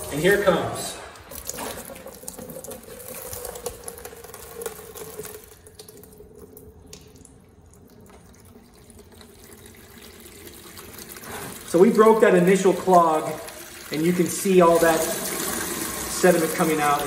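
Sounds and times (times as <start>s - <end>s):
water pouring into plastic tub: 0.0s - 17.0s.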